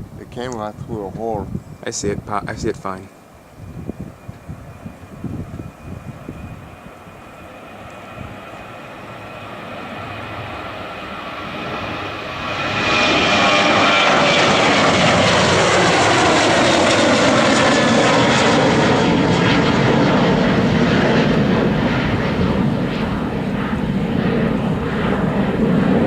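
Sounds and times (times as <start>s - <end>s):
airplane engines passing: 0.0s - 26.0s.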